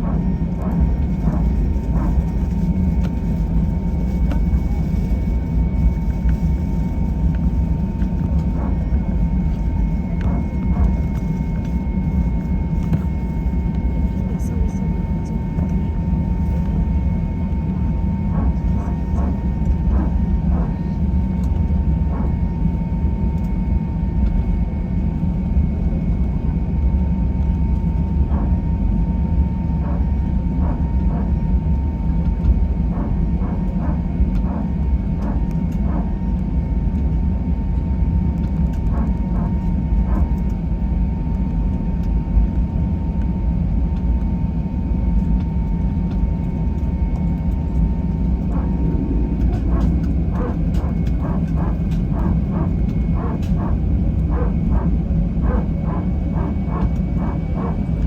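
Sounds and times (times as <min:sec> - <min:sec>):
airliner cabin engine rumble: 0:00.0 - 0:58.0
steady high hum: 0:00.0 - 0:58.0.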